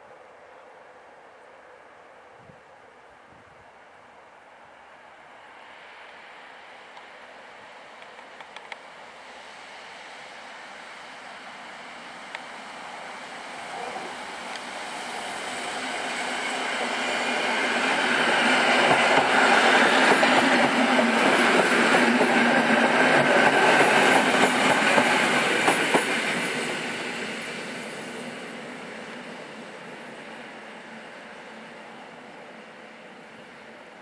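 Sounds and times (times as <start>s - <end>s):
electric train passing: 3.8s - 34.0s.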